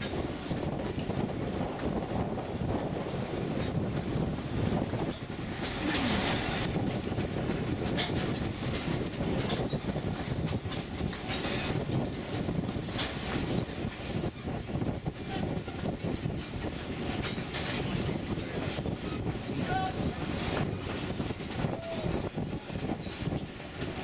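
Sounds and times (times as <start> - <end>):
train wheels clattering on rail: 0.0 - 24.0.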